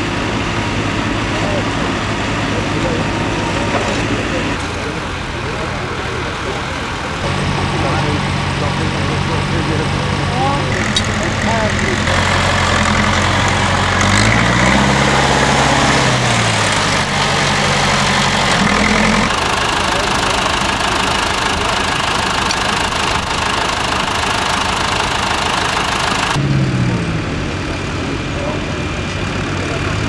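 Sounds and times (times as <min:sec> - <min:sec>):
tractor diesel engines running: 0:00.0 - 0:30.0.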